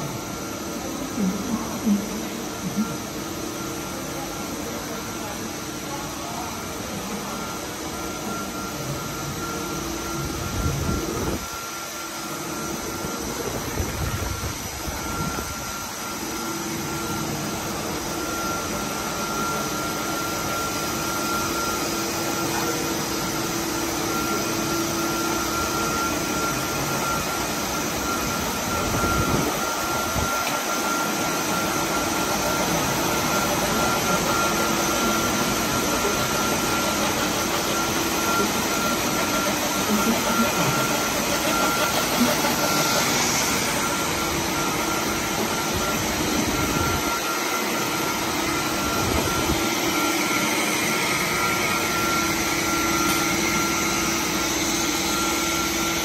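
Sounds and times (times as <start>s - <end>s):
high machine whine: 0.0s - 56.0s
motors and pumps humming: 0.0s - 56.0s.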